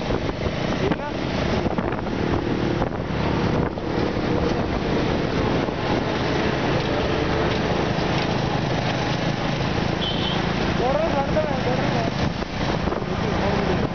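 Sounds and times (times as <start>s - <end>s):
motorcycle engines running: 0.0s - 13.9s
wind rushing over microphone: 0.0s - 13.9s.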